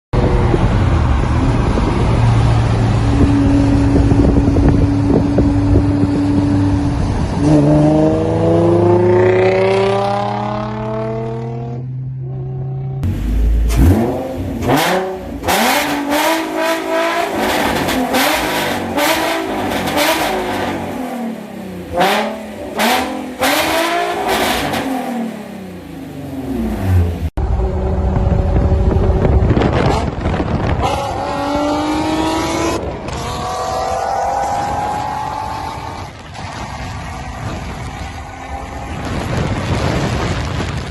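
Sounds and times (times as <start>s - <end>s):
car engine revving: 0.2s - 40.9s.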